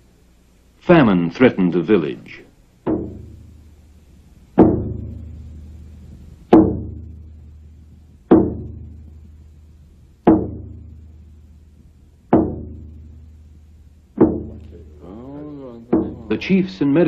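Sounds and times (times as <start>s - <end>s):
slow ringing drumbeat: 2.7s - 17.0s.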